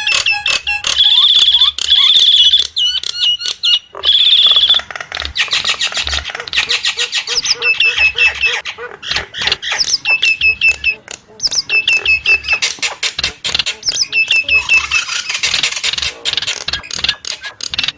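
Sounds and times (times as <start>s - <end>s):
bird chirps and whistles: 0.0s - 4.8s, 5.4s - 8.7s, 9.6s - 16.2s
bird calling with harsh trills: 0.0s - 17.9s.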